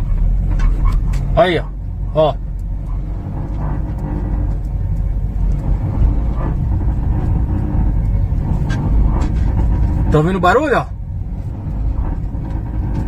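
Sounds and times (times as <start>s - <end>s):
road rumble inside car: 0.0s - 13.0s
suspension knocks and rattles: 0.0s - 13.0s.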